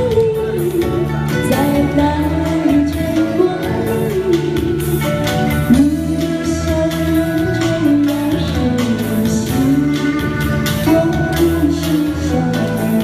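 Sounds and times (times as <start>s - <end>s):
instrumental backing: 0.0s - 13.0s
woman singing into microphone: 0.0s - 13.0s.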